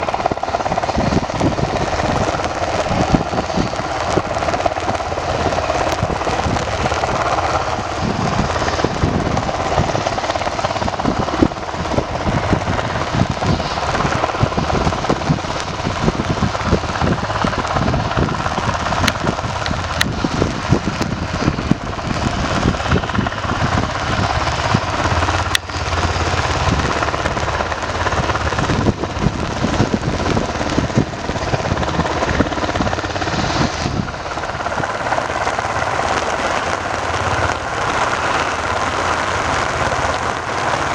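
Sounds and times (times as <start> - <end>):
helicopter turbine and rotor chop: 0.0 - 40.9.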